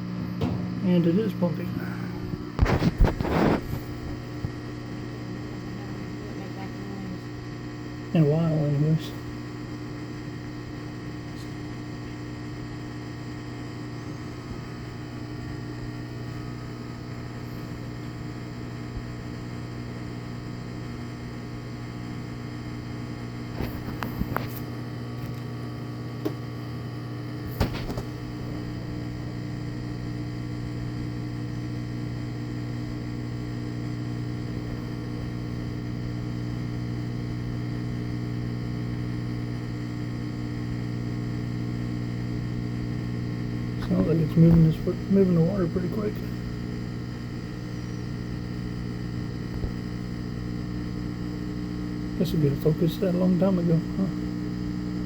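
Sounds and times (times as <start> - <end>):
washing machine humming: 0.0 - 55.0.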